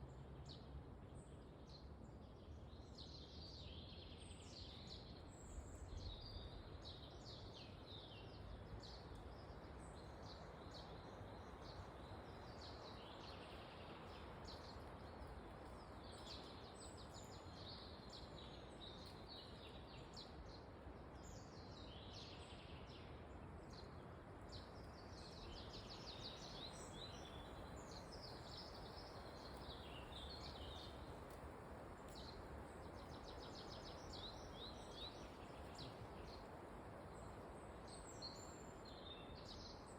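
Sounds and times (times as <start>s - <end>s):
wind in a forest: 0.0s - 39.9s
small birds chirping: 2.8s - 39.9s.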